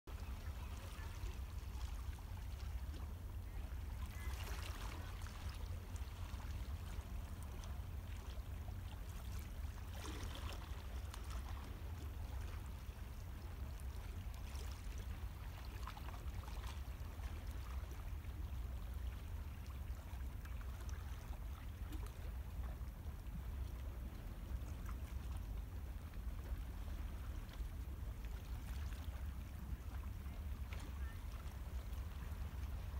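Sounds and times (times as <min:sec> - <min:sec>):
steady low rumble: 0:00.1 - 0:32.9.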